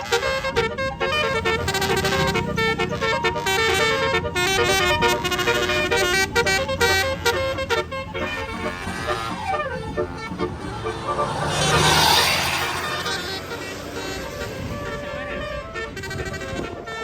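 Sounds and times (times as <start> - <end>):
bus horn playing melody: 0.0 - 17.0
low engine rumble: 0.0 - 17.0.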